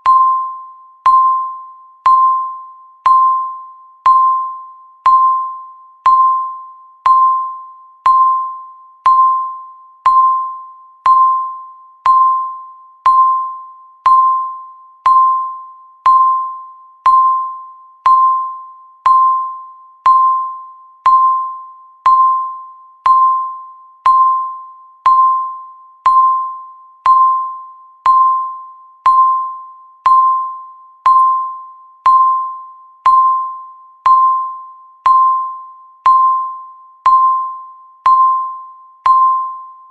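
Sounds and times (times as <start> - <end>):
electronic timer beeps: 0.0 - 39.9.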